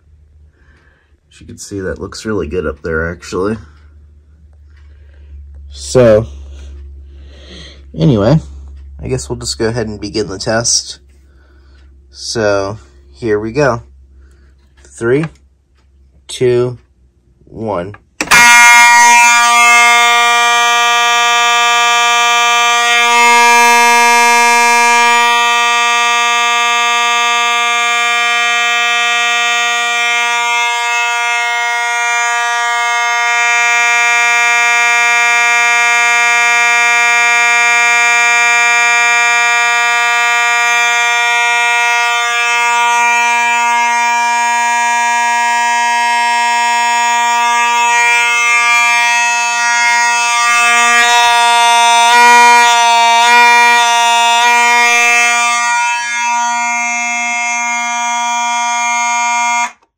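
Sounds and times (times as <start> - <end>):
fire alarm horn buzzing: 4.7 - 15.2, 18.2 - 59.9.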